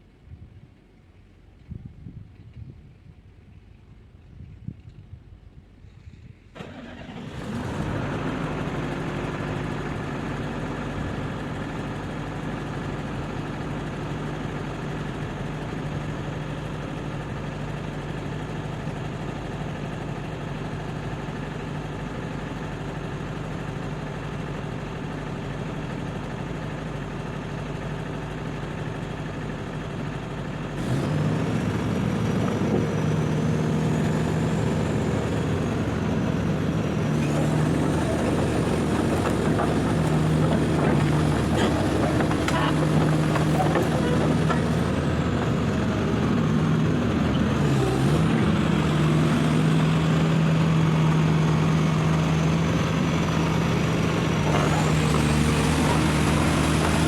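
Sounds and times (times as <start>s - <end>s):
diesel engine running: 6.6s - 57.0s.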